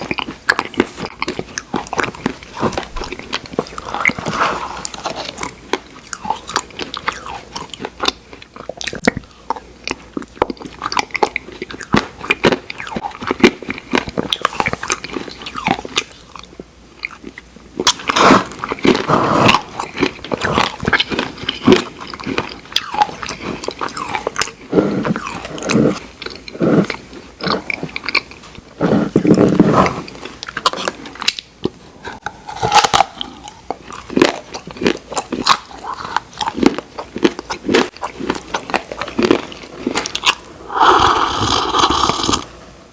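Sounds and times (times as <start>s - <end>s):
chewing mouth sounds: 0.0s - 42.5s.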